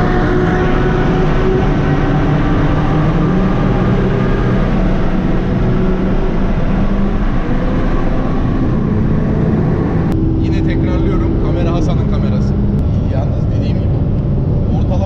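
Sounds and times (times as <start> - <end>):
car engine droning: 0.0 - 15.0
road and wind noise: 0.0 - 15.0.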